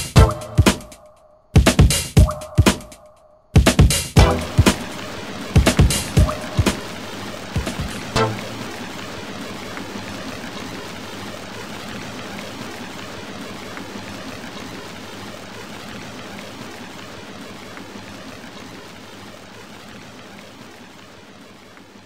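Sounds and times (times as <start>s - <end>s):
steady hiss: 3.9s - 22.0s.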